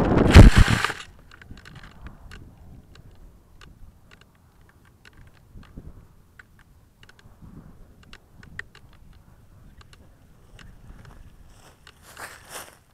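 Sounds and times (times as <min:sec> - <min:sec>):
faint low wind rumble: 0:00.0 - 0:12.9
small irregular clicks: 0:00.3 - 0:12.2.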